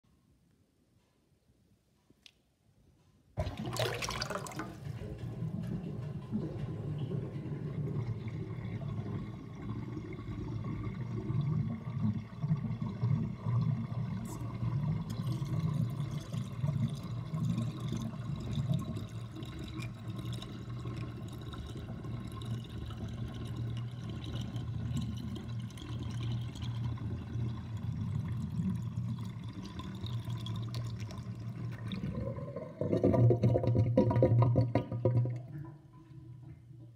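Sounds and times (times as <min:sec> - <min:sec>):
sink drain gurgling: 0:03.4 - 0:36.9.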